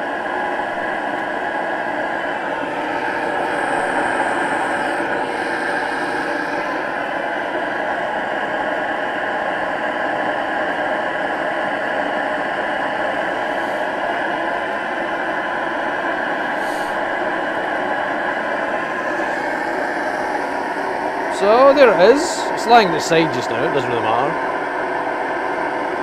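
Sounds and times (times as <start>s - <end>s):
air heater fan and burner running: 0.0s - 26.0s.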